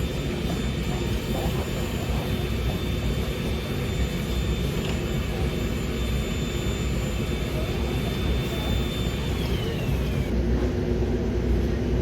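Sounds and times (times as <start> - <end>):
faint high whine: 0.0 - 10.3
low mechanical rumble: 0.0 - 12.0.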